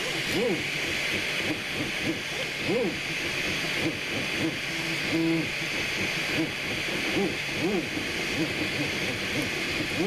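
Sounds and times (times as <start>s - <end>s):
cooling fan hiss: 0.0s - 10.0s
stepper motors whining: 0.0s - 10.0s.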